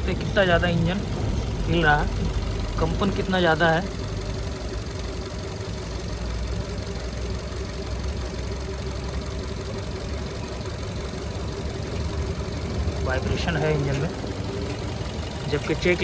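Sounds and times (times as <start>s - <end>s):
misfiring car engine idling: 0.0s - 16.0s.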